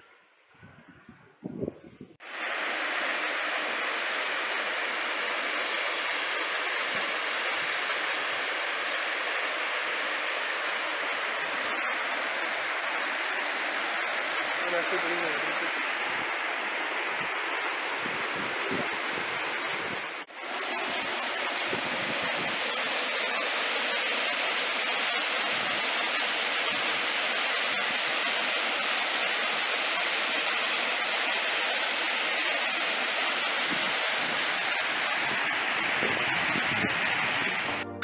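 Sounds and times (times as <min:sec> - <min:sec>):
waterfall rushing: 0:02.2 - 0:38.0.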